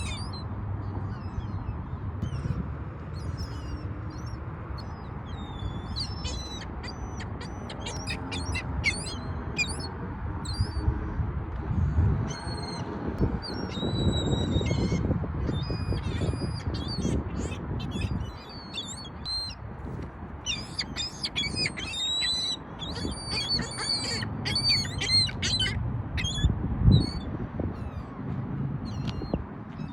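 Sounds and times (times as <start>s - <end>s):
birds chirping and squawking: 0.0s - 2.6s, 3.2s - 10.9s, 12.2s - 19.6s, 20.4s - 28.2s, 28.8s - 29.9s.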